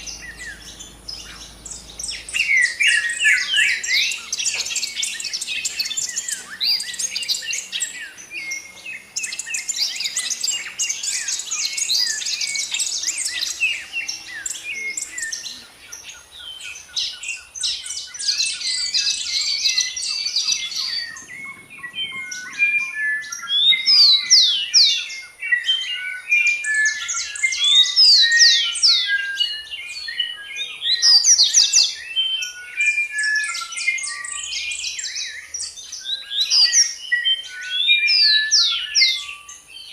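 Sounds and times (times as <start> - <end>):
bird trill: 0.0 - 39.9
birds chirping and whistling: 0.0 - 39.9.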